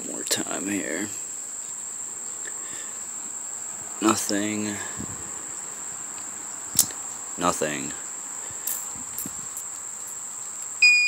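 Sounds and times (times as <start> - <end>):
high-pitched insect trill: 0.4 - 11.0.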